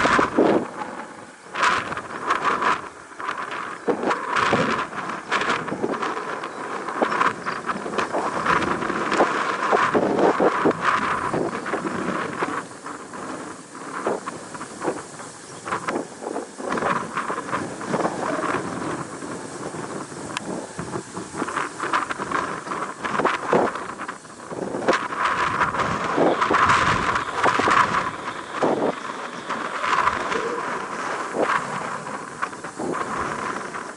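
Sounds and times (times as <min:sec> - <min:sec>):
jet engines rushing and crackling: 0:00.0 - 0:33.9
wind buffeting microphone: 0:00.0 - 0:33.9.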